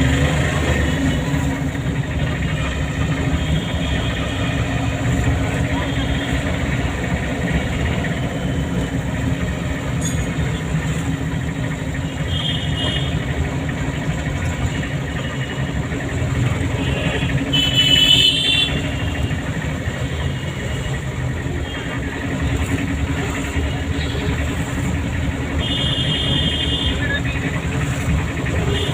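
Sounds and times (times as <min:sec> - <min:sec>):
car engine and road noise: 0:00.0 - 0:28.9.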